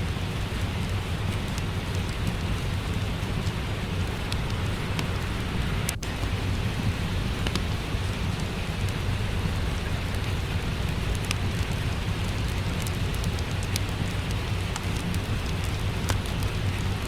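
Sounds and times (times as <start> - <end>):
deep rumble: 0.0 - 17.0
steady rain: 0.0 - 17.0
wood fire crackling: 0.0 - 17.0.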